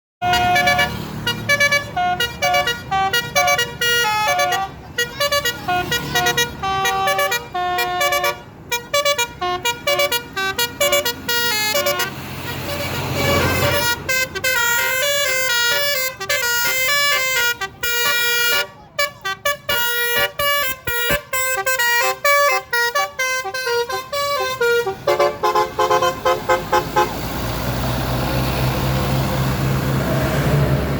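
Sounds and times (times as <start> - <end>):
musical air horn tune: 0.2 - 27.2.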